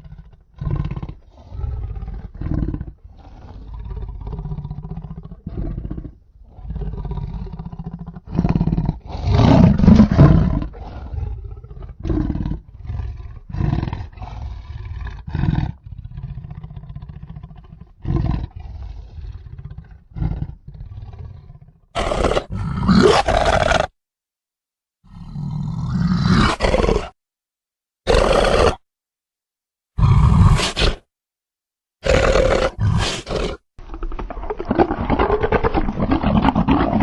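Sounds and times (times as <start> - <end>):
creature roars and growls: 0.0 - 23.9, 25.1 - 27.2, 28.1 - 28.8, 30.0 - 31.0, 32.0 - 37.0.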